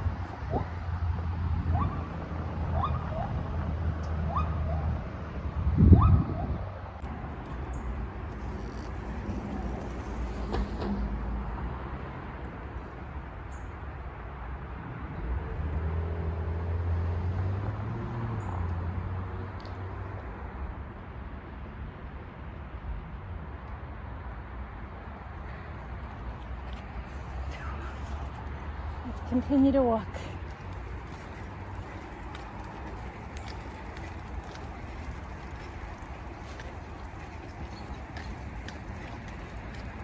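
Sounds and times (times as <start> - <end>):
freeway traffic rumble: 0.0 - 40.0.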